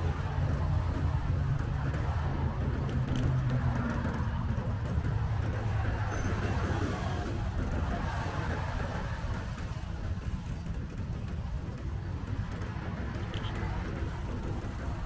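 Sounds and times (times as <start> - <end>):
cars passing: 0.0 - 15.0
low traffic rumble: 0.0 - 15.0.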